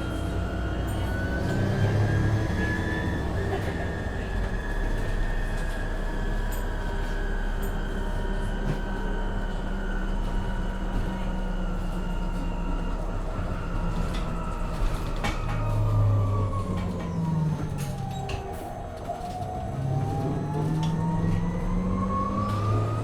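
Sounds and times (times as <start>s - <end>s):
bus rumble with drivetrain whine: 0.0s - 23.0s.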